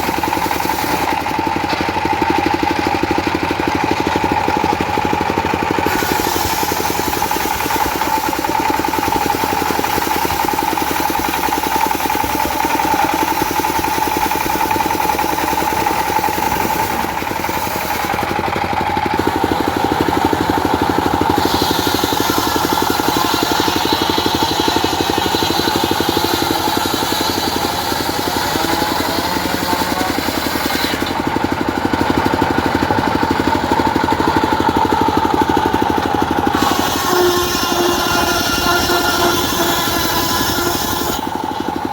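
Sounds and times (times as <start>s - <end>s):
circular saw cutting wood: 0.0s - 41.9s
diesel engine running: 0.0s - 41.9s
saw blade spinning freely: 4.3s - 32.4s, 33.7s - 41.9s.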